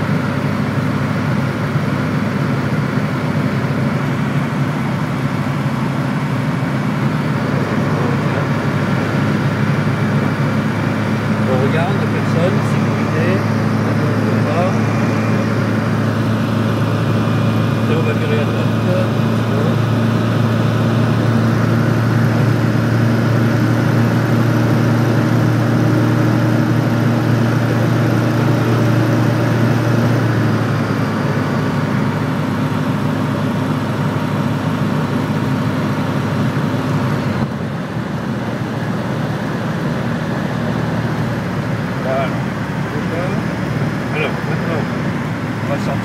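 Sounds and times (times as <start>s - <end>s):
light aircraft engine droning: 0.0s - 46.0s.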